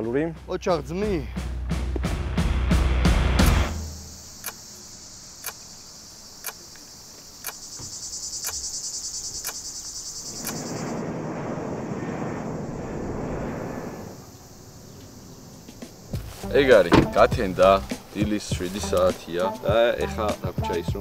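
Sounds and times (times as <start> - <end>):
crickets trilling: 3.6 - 21.0.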